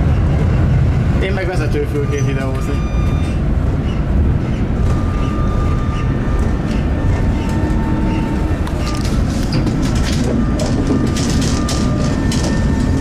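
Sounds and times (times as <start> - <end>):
tram wheels rumbling on track: 0.0 - 13.0.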